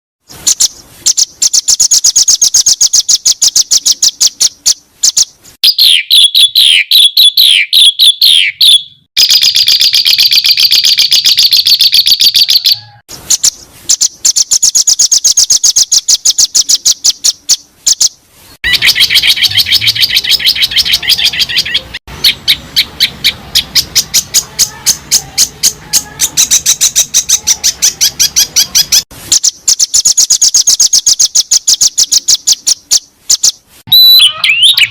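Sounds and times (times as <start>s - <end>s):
songbird chirping and trilling: 0.3s - 34.9s.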